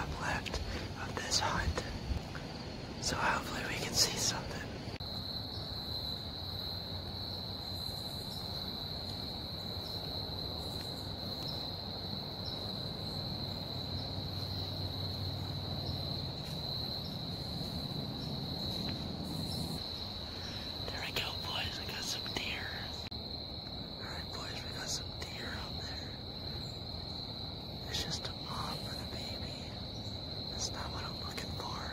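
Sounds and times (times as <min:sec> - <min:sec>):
crickets trilling: 0:00.0 - 0:31.9
faint low hum: 0:00.0 - 0:31.9.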